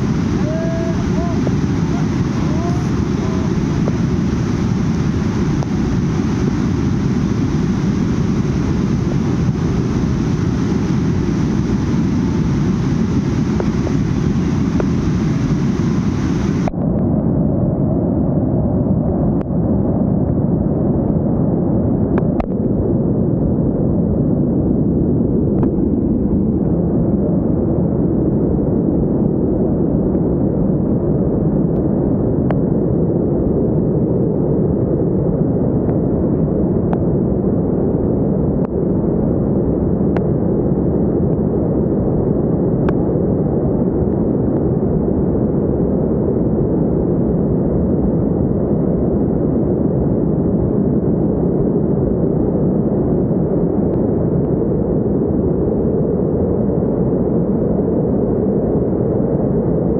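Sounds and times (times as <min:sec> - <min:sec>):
mudflow rushing rumble: 0:00.0 - 0:59.9.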